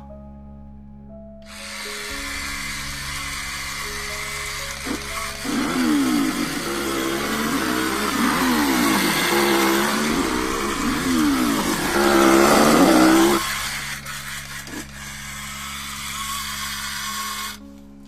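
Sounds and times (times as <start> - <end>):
chainsaw revving: 1.5 - 17.6.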